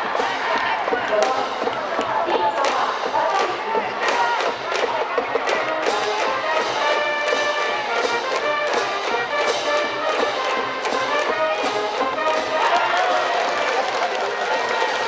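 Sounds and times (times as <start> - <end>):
brass band melody: 0.0 - 15.0
drum beats: 0.0 - 15.0.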